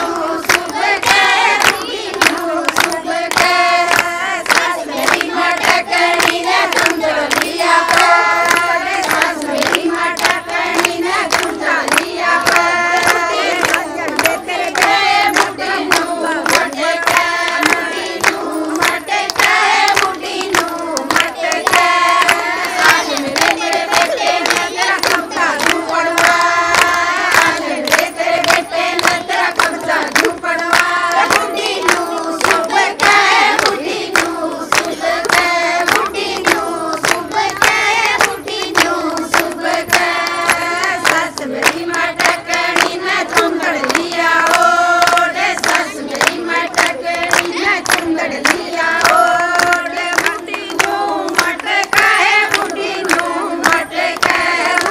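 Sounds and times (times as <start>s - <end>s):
rhythmic hand clapping: 0.0s - 54.9s
women singing folk song: 0.0s - 54.9s.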